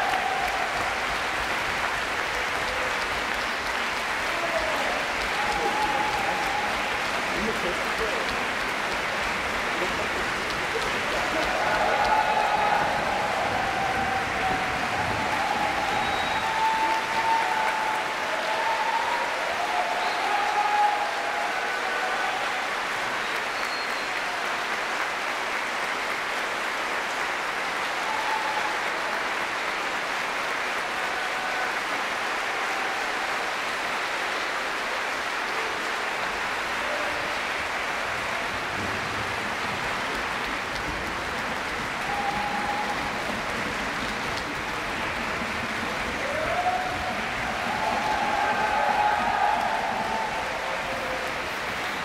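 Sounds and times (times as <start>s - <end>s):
short calls from audience: 0.0s - 25.4s, 27.7s - 39.3s, 41.5s - 52.0s
audience applauding: 0.0s - 52.0s.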